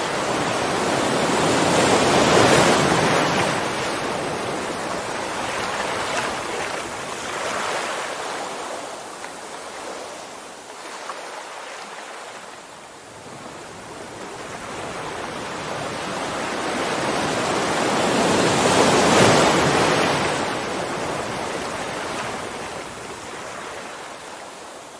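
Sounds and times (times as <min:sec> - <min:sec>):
waves breaking on beach: 0:00.0 - 0:24.9.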